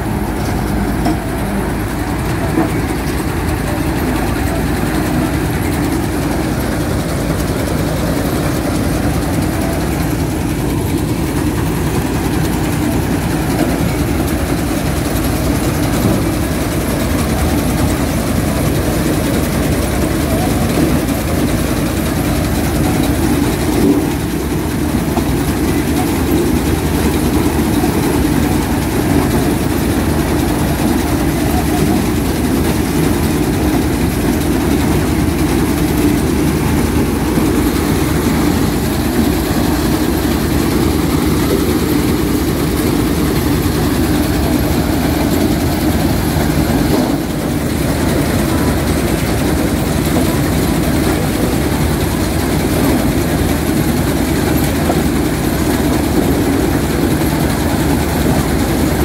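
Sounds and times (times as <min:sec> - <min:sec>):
auger feeding corn stalks: 0:00.0 - 0:59.0
combine harvester engine running: 0:00.0 - 0:59.0.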